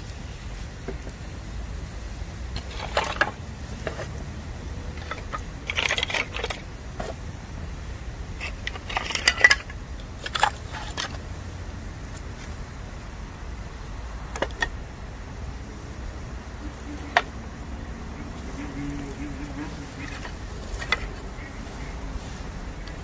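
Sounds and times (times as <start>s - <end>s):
bamboo crackling in a campfire: 0.0s - 23.0s.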